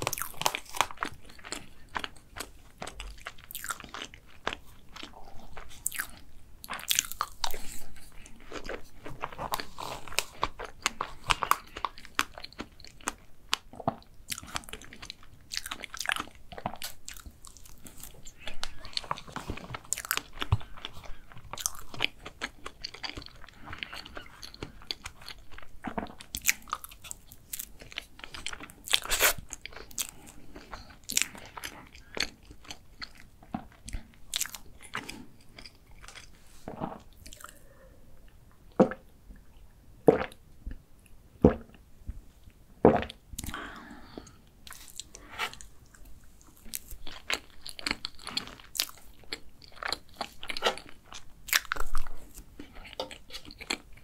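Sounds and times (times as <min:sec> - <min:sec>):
chewing and lip smacks: 0:00.0 - 0:36.4, 0:44.2 - 0:54.0.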